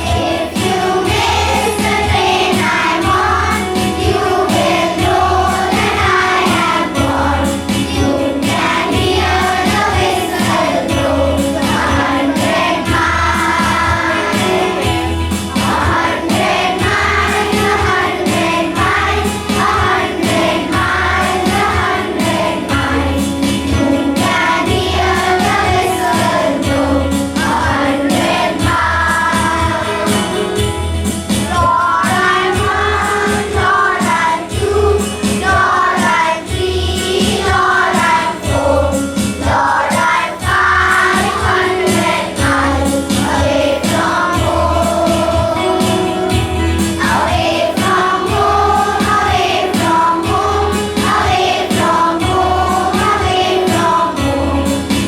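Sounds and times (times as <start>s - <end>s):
group singing a prayer song: 0.0s - 55.0s
musical accompaniment with low beat: 0.0s - 55.0s.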